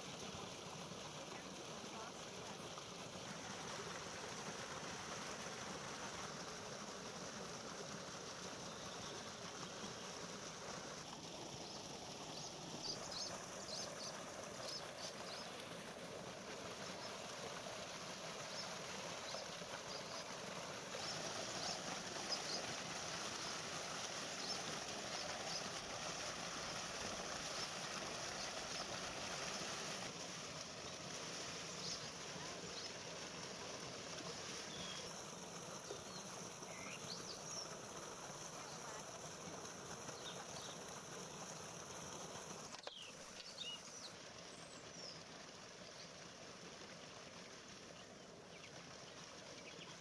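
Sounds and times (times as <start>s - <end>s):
water pouring into a channel: 0.0s - 50.0s.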